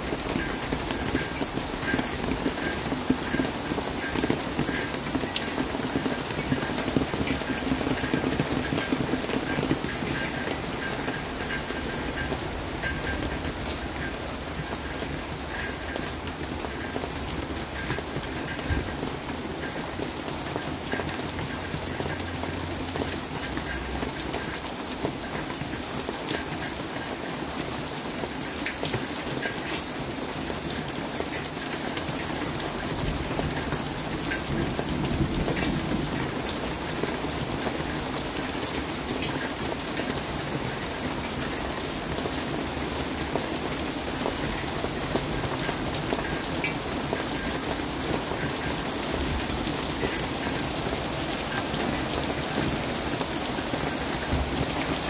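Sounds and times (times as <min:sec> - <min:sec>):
rain drops on hard surface: 0:00.0 - 0:55.0.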